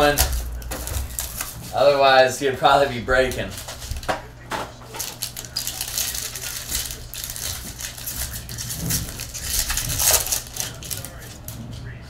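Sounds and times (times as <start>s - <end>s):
foil wrapper crinkling and tearing: 0.0s - 2.0s, 2.6s - 4.1s, 4.9s - 11.6s
steady low hum: 0.0s - 12.0s.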